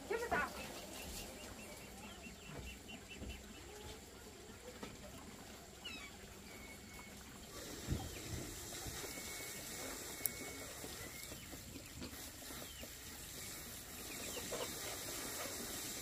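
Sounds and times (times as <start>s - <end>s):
chickens clucking: 0.0s - 16.0s
outdoor background noise: 0.0s - 16.0s.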